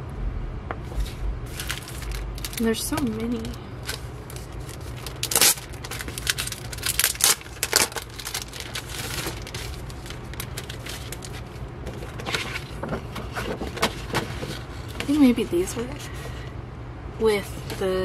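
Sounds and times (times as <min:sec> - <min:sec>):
low steady hum: 0:00.0 - 0:18.0
paper rustling: 0:00.9 - 0:16.4
plastic sleeves crinkling: 0:01.0 - 0:16.4.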